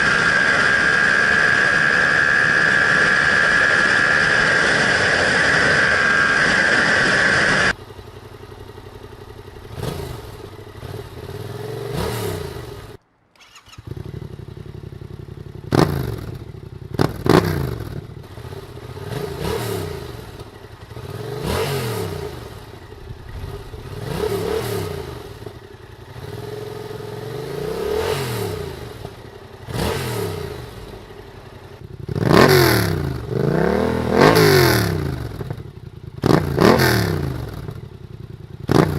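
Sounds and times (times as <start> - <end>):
motorcycle engine revving: 0.0 - 38.9
steady engine sound: 0.0 - 38.9.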